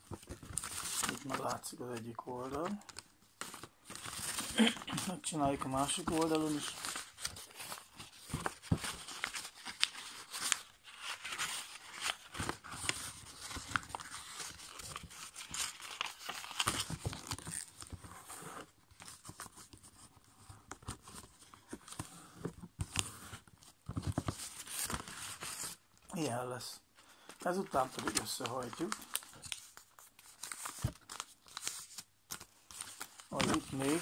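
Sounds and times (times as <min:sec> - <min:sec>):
paper being folded and creased: 0:00.0 - 0:25.8, 0:27.3 - 0:34.0.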